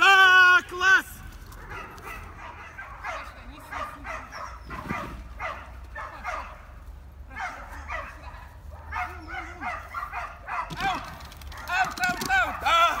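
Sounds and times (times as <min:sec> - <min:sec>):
small dog yapping: 0:01.6 - 0:06.6, 0:07.4 - 0:13.0.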